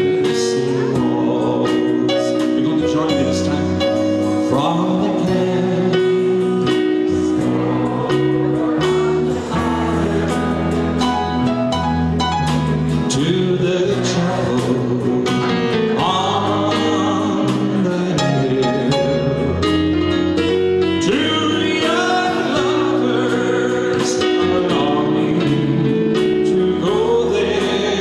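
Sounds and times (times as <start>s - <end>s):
man singing: 0.0s - 11.5s, 12.8s - 28.0s
bass notes: 0.0s - 28.0s
drum kit beat: 0.0s - 28.0s.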